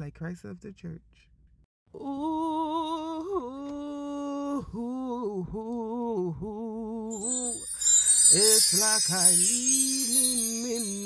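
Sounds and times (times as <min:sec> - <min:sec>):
person humming a slow tune: 0:02.0 - 0:11.0.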